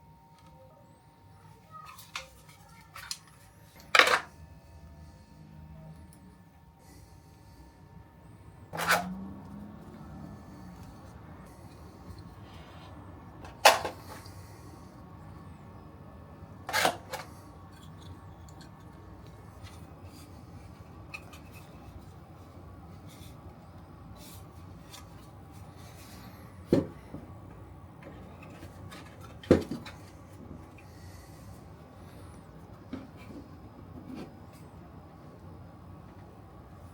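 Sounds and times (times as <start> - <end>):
faint low hum: 0.0 - 36.9.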